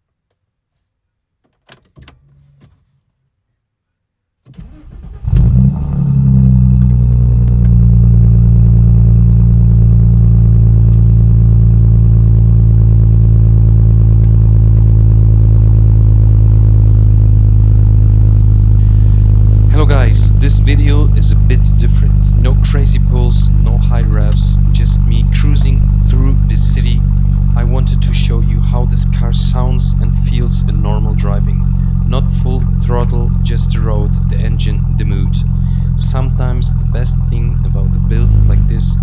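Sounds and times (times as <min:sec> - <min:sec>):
car engine revving and idling: 0:05.1 - 0:39.0.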